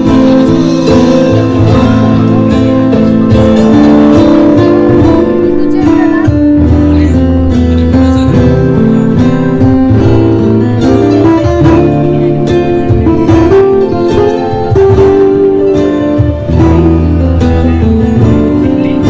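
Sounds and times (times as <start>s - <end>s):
acoustic guitar strumming: 0.0s - 19.0s
bass notes: 0.0s - 19.0s
electric keyboard chords: 0.0s - 19.0s.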